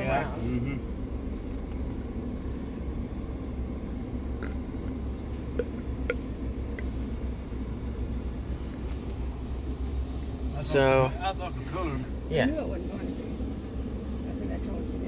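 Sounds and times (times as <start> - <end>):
truck engine rumble in cab: 0.0 - 15.0.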